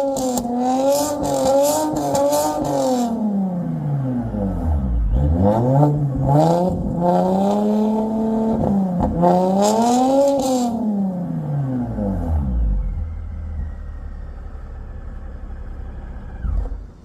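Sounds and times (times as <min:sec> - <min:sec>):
car engine revving through exhaust: 0:00.0 - 0:17.0.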